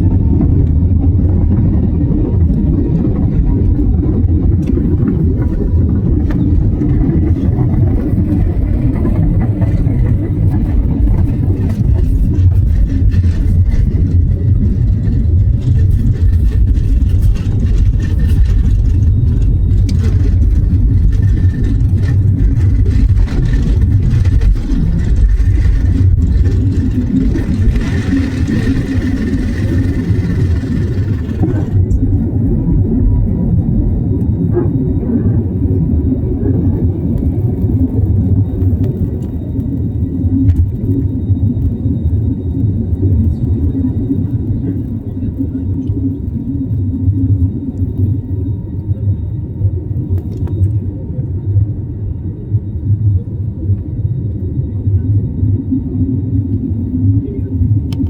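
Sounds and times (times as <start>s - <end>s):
jet engines rumbling at takeoff: 0.0s - 58.0s.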